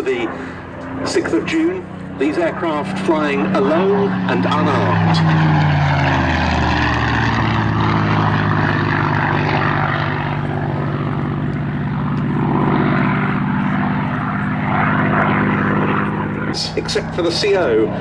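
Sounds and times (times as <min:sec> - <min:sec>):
propeller aircraft engine drone: 0:00.0 - 0:18.0.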